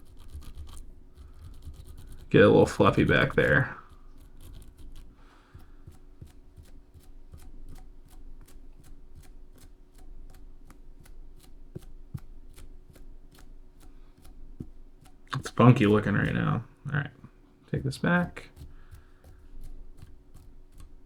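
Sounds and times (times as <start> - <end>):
comb scratching fly fibres: 0.0 - 16.9, 17.7 - 21.0.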